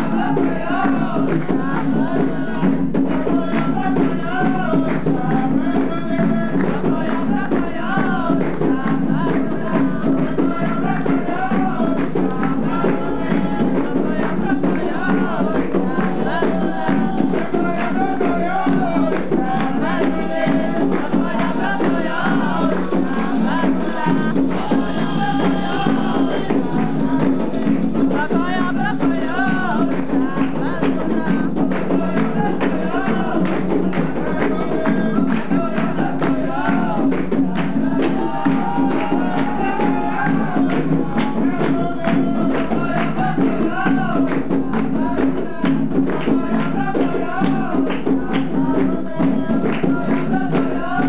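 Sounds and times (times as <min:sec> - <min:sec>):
group singing a chant: 0:00.0 - 0:51.0
hand drums and percussion: 0:00.0 - 0:51.0.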